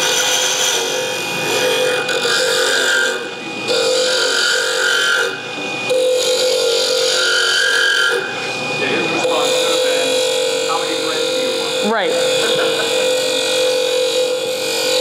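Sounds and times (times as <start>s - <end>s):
wood lathe turning tool rasping: 0.0s - 15.0s.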